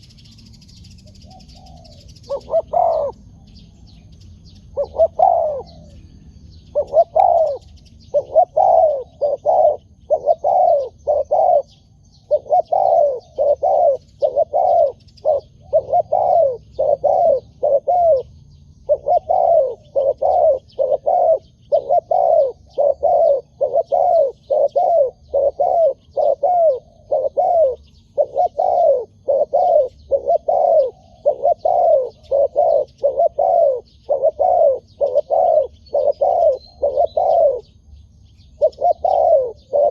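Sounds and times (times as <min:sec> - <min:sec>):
dove cooing: 0:00.0 - 0:37.8, 0:38.5 - 0:39.9
small birds chirping: 0:00.0 - 0:39.9.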